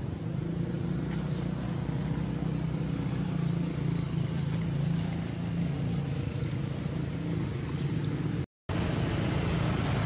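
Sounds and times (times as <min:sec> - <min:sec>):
low engine hum: 0:00.0 - 0:10.0
outdoor background noise: 0:00.0 - 0:10.0.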